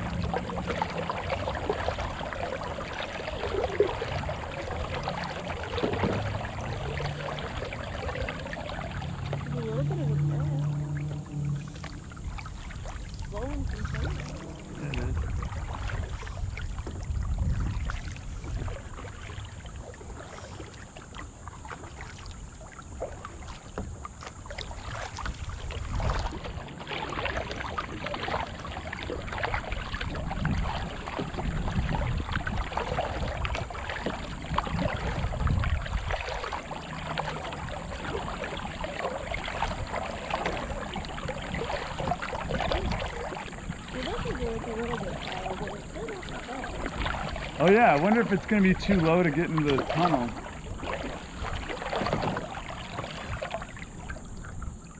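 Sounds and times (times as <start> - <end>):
wind rumble on microphone: 0.0 - 21.4, 22.2 - 54.9
paddle strokes splashing: 0.0 - 54.9.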